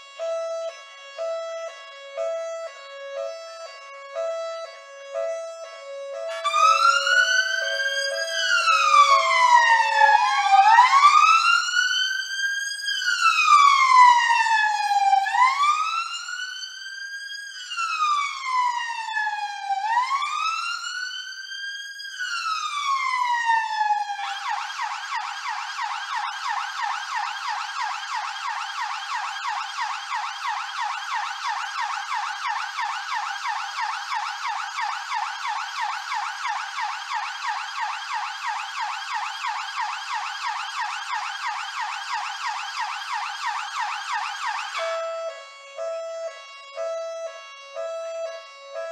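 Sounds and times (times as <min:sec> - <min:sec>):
police siren: 0:00.0 - 0:48.9.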